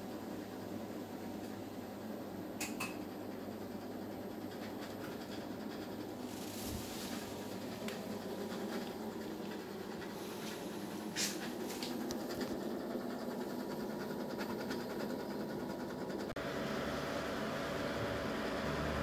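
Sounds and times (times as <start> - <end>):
washing machine rumbling: 0.0 - 19.0.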